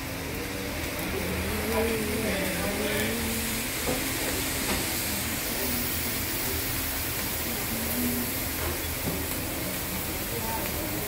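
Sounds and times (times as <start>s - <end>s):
restaurant rumble and hiss: 0.0s - 11.0s
faint voices: 0.2s - 11.0s.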